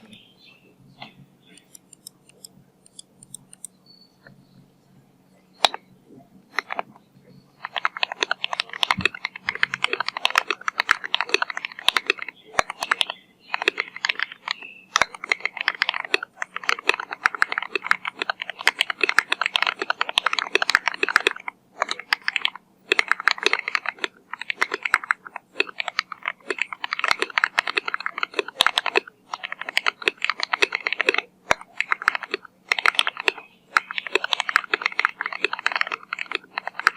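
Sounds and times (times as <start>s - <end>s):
mechanical keyboard typing: 1.5s - 3.8s, 7.6s - 36.9s.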